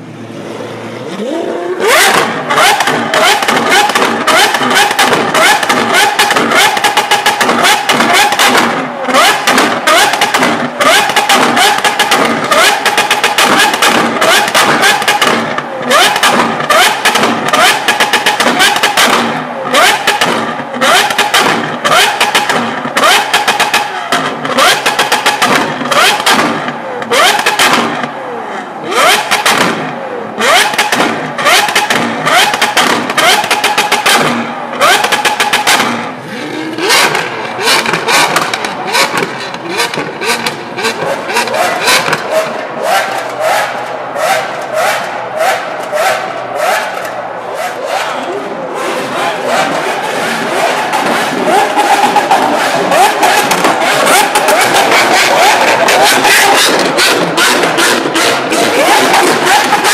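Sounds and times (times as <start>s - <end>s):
car engine revving: 0.0s - 59.9s
exhaust pops and crackles: 1.9s - 28.2s, 29.1s - 36.2s, 36.8s - 47.2s, 49.6s - 59.9s.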